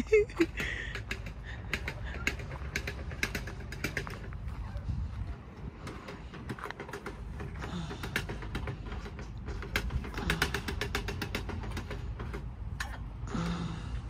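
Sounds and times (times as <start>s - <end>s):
swing chains clicking and creaking: 0.0s - 14.0s.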